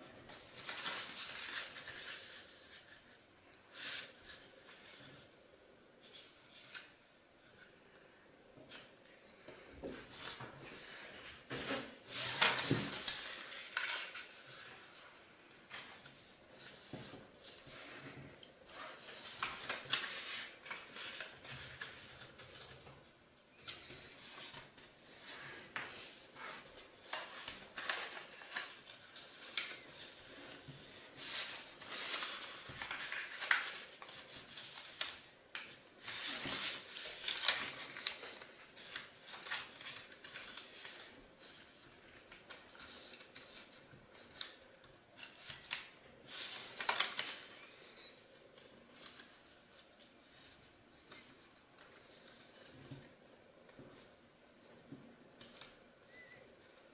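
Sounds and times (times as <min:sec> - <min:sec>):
paper rustling and crinkling: 0:00.0 - 0:05.3, 0:09.8 - 0:56.9.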